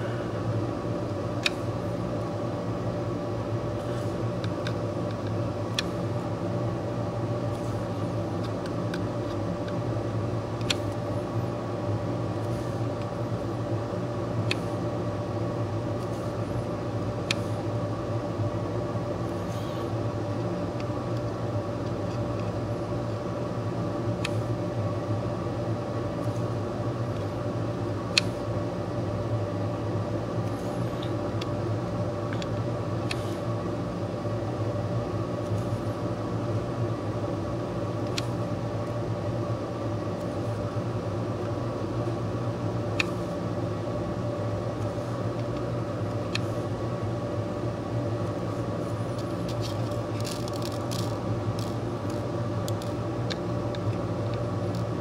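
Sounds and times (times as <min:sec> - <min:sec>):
fan humming: 0:00.0 - 0:55.0.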